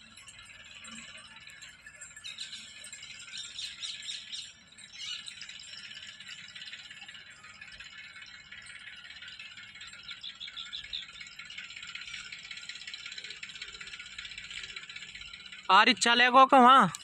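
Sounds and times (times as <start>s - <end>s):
small birds chattering and chirping: 0.0s - 17.0s.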